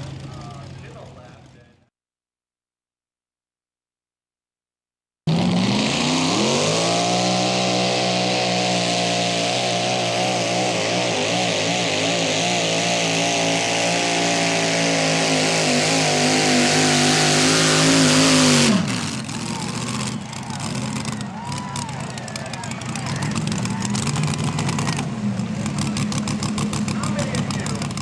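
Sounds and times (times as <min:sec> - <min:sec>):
tractor engine revving: 0:00.0 - 0:01.8, 0:05.3 - 0:28.0.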